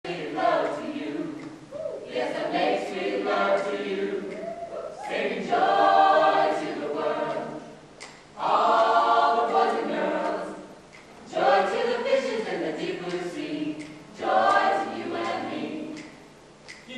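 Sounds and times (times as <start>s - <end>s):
group singing in harmony: 0.0s - 16.3s.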